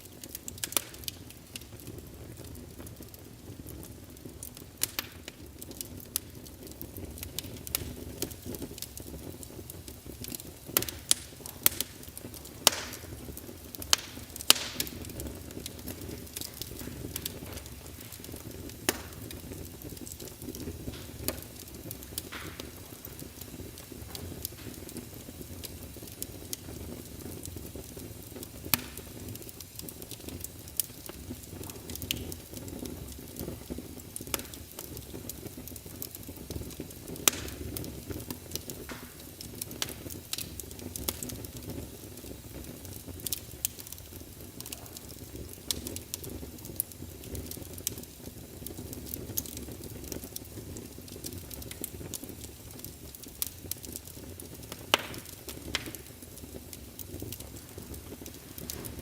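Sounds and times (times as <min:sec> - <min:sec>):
fire crackles and pops: 0:00.0 - 0:59.0
fire hissing: 0:00.0 - 0:59.0
wood fire burning: 0:00.0 - 0:59.0.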